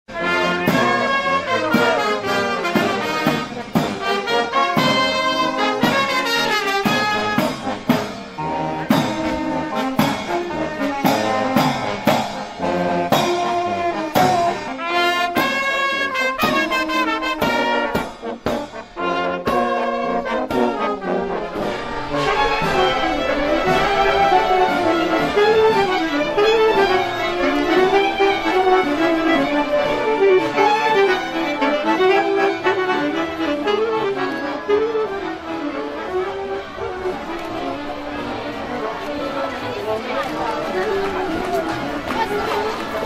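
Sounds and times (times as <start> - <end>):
brass band playing folk tune: 0.1 - 43.0.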